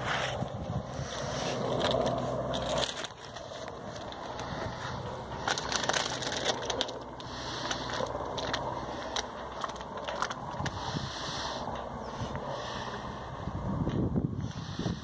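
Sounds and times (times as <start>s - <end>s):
distant helicopter drone: 0.0s - 15.0s
wind buffeting microphone: 0.0s - 15.0s.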